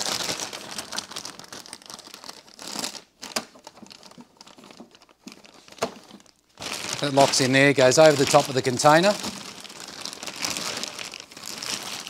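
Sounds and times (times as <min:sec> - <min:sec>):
plastic bag crinkling: 0:00.0 - 0:12.0
sharp plastic crackle: 0:00.0 - 0:12.0.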